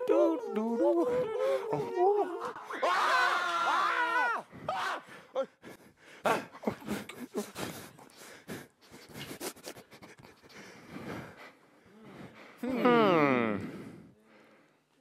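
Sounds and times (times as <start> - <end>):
people breathing hard and gasping: 0.6 - 15.0.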